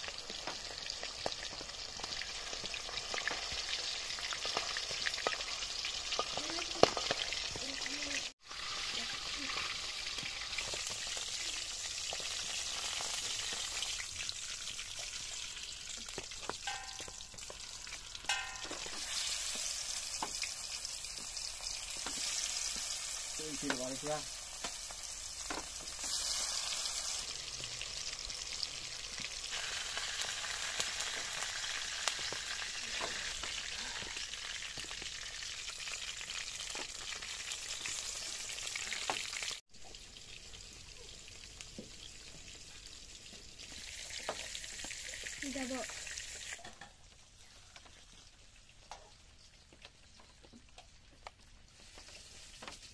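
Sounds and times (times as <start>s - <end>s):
fish deep-frying in oil: 0.0s - 52.9s.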